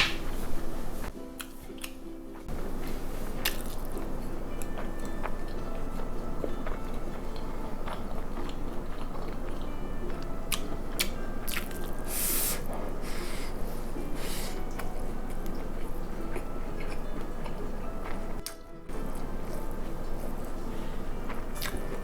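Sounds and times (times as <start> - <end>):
chewing and biting food: 1.4 - 12.9, 14.5 - 22.0.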